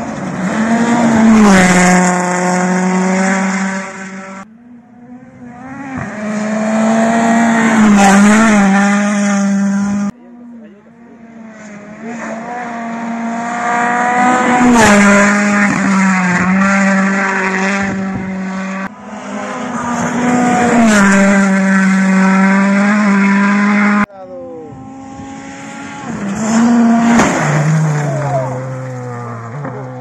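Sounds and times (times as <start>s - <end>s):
rally car engines revving high: 0.0s - 30.0s.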